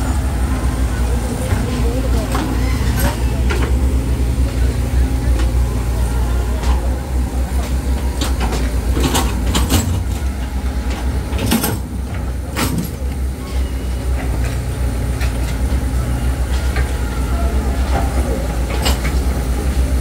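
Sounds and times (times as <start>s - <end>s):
heavy engine rumbling: 0.0s - 20.0s.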